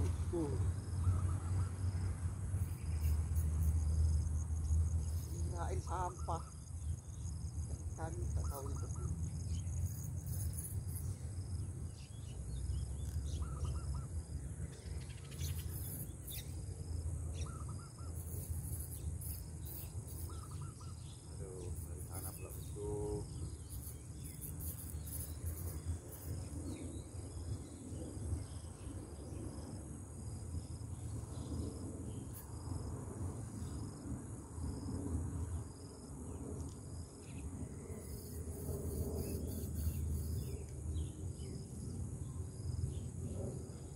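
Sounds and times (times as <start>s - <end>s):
continuous high buzz: 0.0s - 43.9s
insects chirping: 0.0s - 43.9s.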